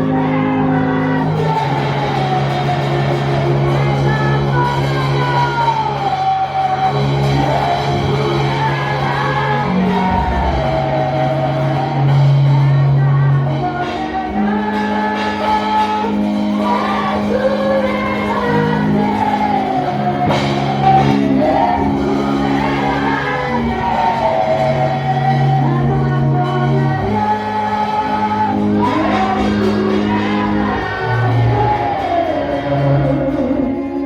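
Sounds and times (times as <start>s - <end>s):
church praise singing: 0.0s - 34.0s.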